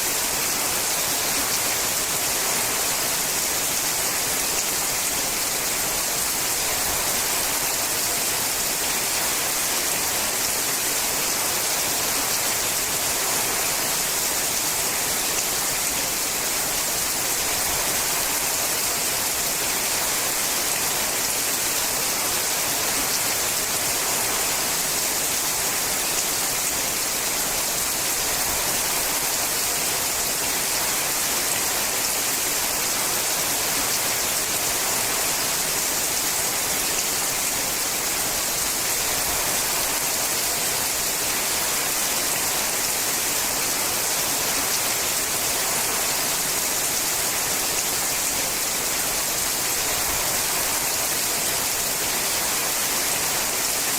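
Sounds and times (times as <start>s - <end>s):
rain on a metal roof: 0.0s - 53.9s.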